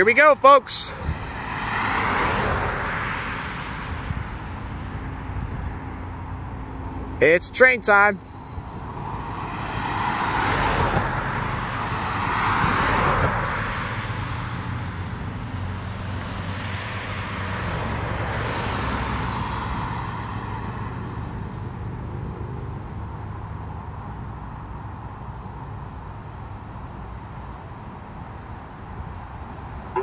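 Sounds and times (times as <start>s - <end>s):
cars passing on road: 0.0s - 30.0s.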